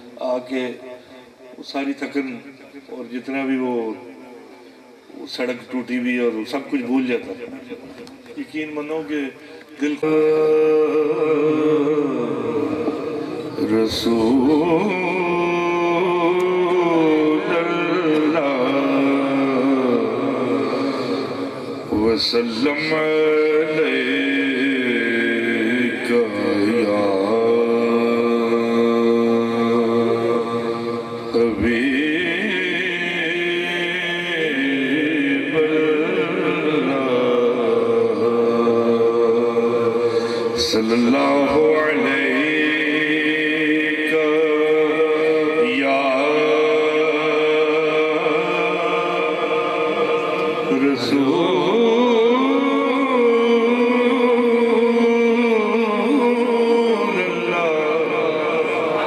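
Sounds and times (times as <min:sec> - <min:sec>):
man singing into microphone: 0:09.7 - 0:59.0.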